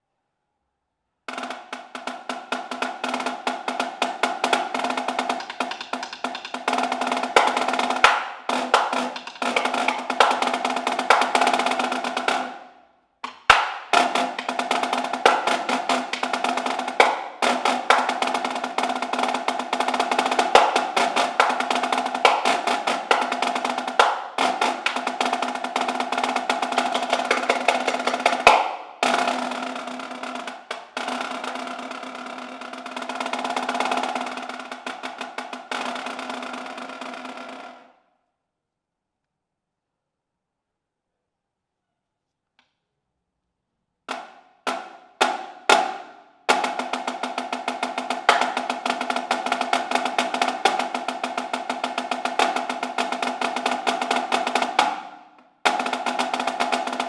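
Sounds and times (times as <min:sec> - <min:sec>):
snare drum rolls: 0:01.3 - 0:37.9, 0:44.1 - 0:57.0.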